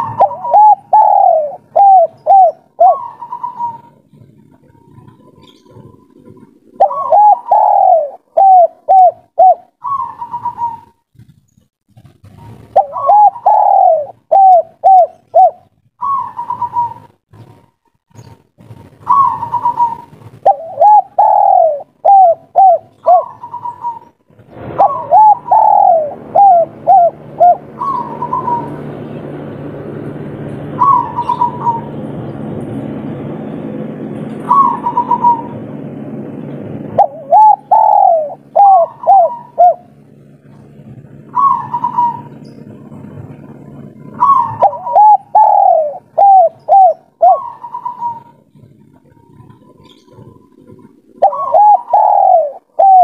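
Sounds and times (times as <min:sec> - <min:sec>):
dove cooing: 0:00.0 - 0:11.4, 0:12.2 - 0:17.6, 0:18.2 - 0:53.0
steady low hum: 0:00.0 - 0:53.0.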